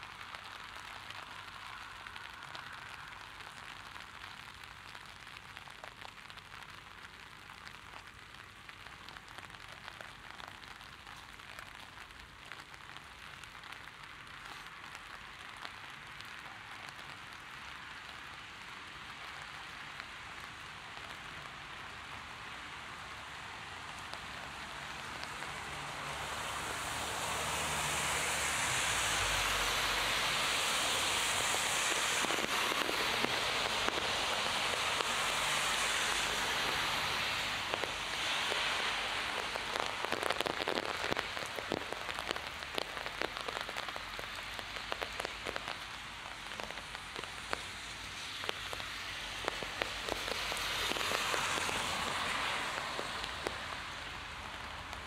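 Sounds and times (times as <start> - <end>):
close raindrop hits: 0.0 - 55.0
heavy rain: 0.0 - 55.0.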